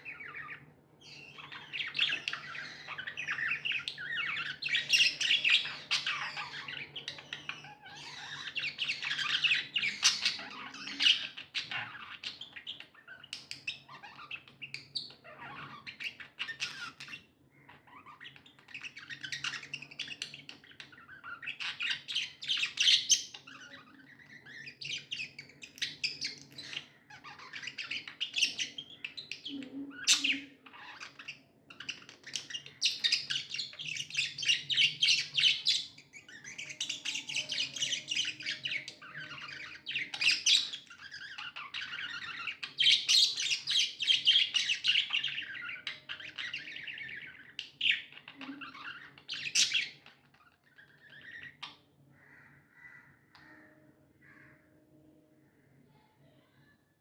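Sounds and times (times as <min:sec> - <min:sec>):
budgerigars chirping and warbling: 0:00.0 - 0:54.6.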